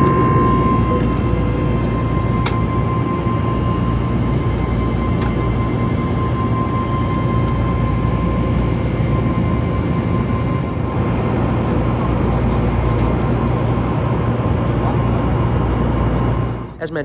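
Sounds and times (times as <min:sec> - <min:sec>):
engine and airflow rumble: 0:00.0 - 0:16.8
steady high whine: 0:00.0 - 0:16.8.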